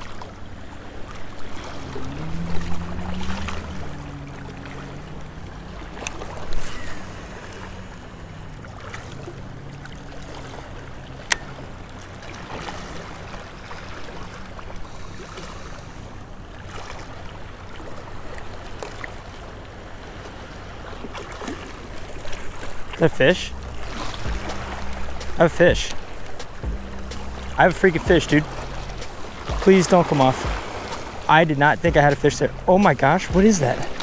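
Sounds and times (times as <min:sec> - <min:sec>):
low hum: 0:00.0 - 0:18.6, 0:22.0 - 0:34.0
small waves lapping on rocks: 0:00.0 - 0:34.0.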